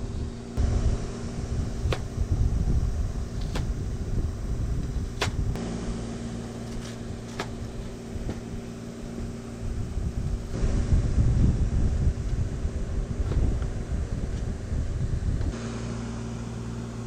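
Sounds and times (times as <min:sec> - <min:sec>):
low rumble with hum: 0:00.0 - 0:17.0.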